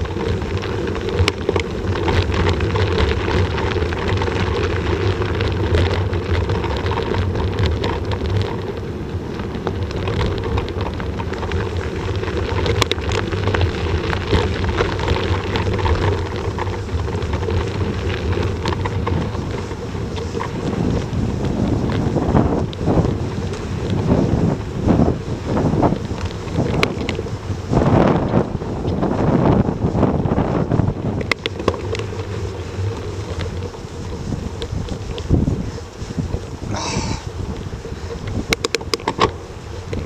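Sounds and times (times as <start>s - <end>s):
bicycle tyre noise: 0.0s - 40.0s
bike clicks and rattles: 0.0s - 40.0s
wind on microphone: 0.0s - 40.0s.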